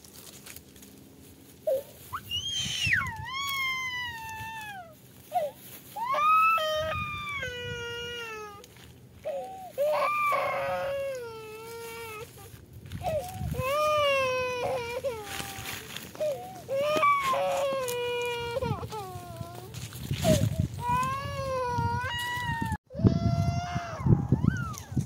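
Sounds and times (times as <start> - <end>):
child sobbing: 1.7 - 25.0
small child crying: 1.7 - 25.0.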